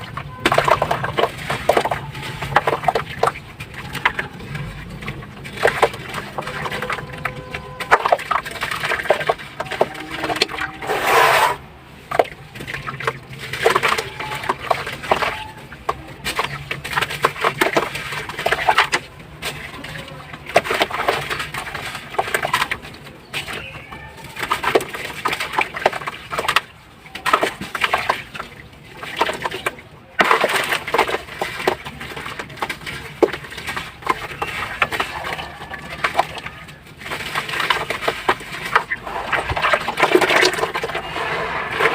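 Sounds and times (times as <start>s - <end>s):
slabs crumbling in water: 0.0s - 41.9s.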